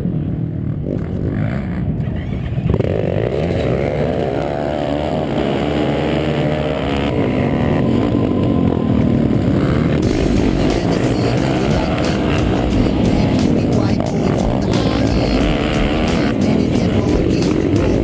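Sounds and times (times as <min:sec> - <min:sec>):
many quad engines revving: 0:00.0 - 0:18.0.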